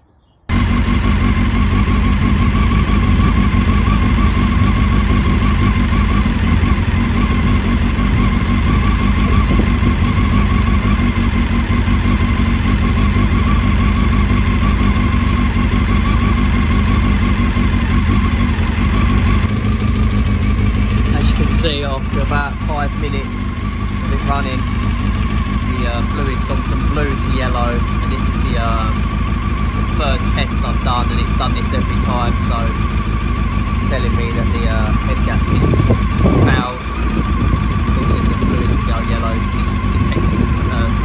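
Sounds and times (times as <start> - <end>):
motorcycle engine idling: 0.5 - 41.0.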